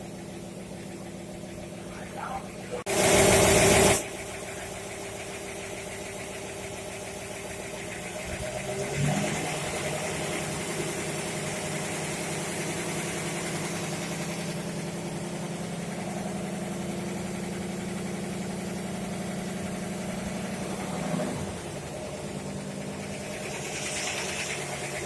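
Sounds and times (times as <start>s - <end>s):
fire pump engine droning: 0.0s - 25.0s.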